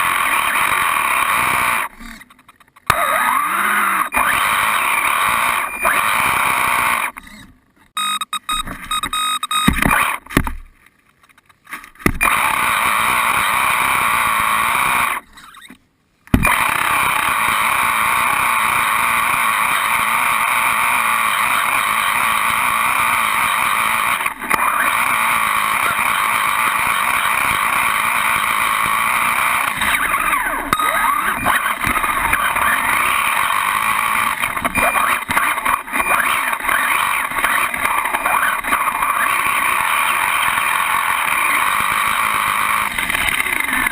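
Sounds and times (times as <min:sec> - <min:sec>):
toy car motor and gears whirring: 0:00.0 - 0:07.6, 0:12.2 - 0:43.9.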